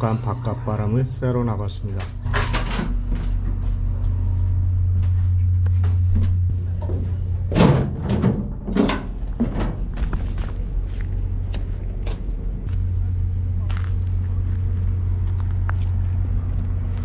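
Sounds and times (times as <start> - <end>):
low hum of stopped train: 0.0 - 17.0.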